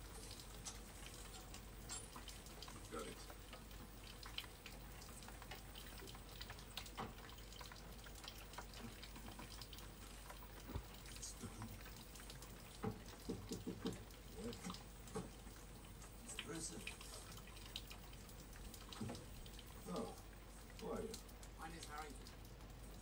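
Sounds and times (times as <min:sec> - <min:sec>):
rainwater dripping: 0:00.0 - 0:23.0.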